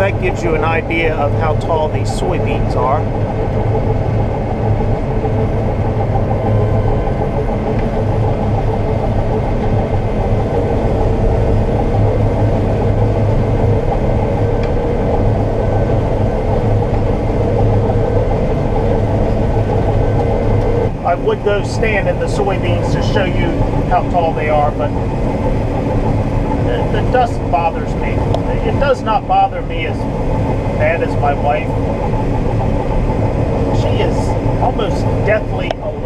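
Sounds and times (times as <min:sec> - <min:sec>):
combine harvester droning: 0:00.0 - 0:36.0.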